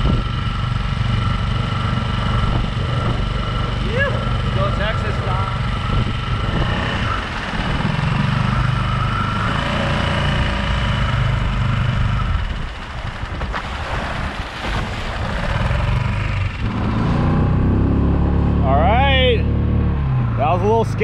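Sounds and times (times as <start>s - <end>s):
water and wind wash: 0.0s - 19.4s
outboard motor rumbling: 0.0s - 21.0s.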